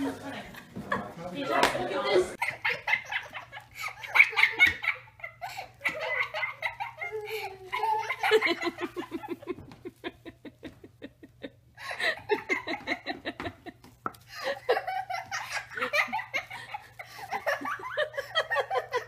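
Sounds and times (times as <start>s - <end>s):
person laughing and giggling: 2.4s - 19.0s.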